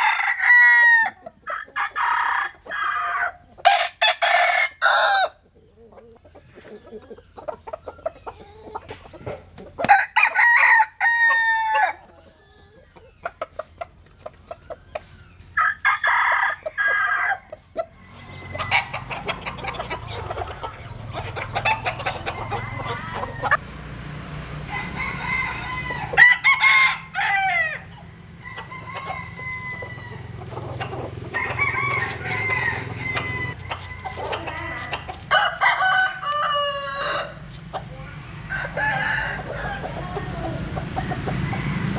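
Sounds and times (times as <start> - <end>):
chicken clucks: 0.0 - 10.4, 11.2 - 23.7, 27.8 - 41.9
roosters crowing: 0.0 - 41.9.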